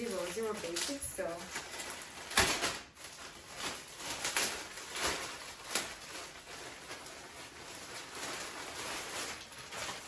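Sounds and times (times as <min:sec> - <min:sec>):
plastic bag tearing: 0:00.0 - 0:10.0
plastic rustling: 0:00.0 - 0:10.0.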